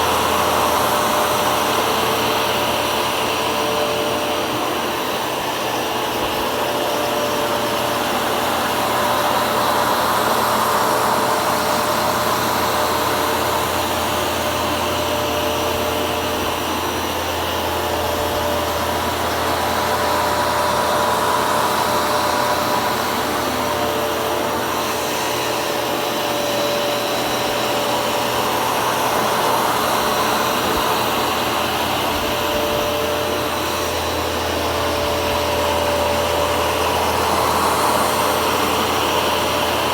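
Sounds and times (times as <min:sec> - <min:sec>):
carpet shampooer motor whine: 0:00.0 - 0:39.9.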